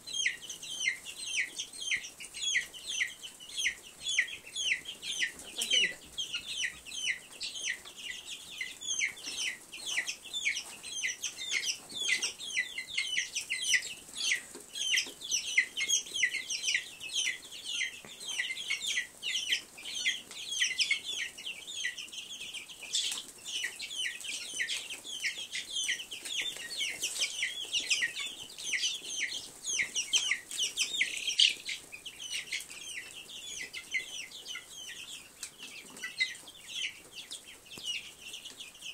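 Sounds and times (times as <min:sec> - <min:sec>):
chicks and ducklings peeping: 0:00.0 - 0:38.9.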